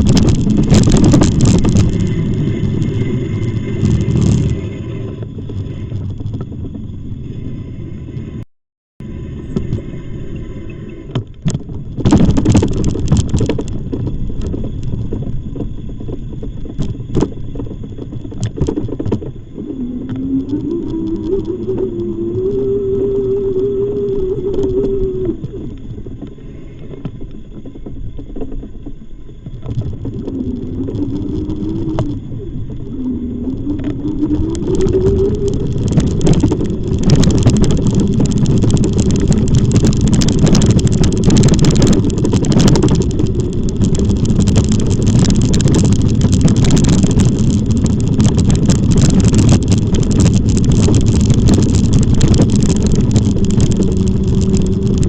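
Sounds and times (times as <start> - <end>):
electric bike motor whining: 0.0 - 8.4, 9.0 - 55.0
wind and tyre rushing noise: 0.0 - 55.0.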